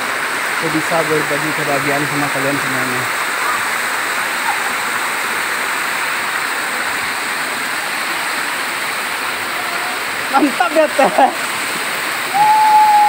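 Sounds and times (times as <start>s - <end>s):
waterfall rushing over boulders: 0.0s - 13.0s.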